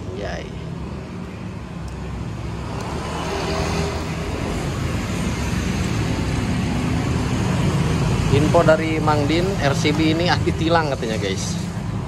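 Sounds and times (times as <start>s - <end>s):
traffic noise: 0.0s - 12.0s
vehicle engine: 0.0s - 12.0s.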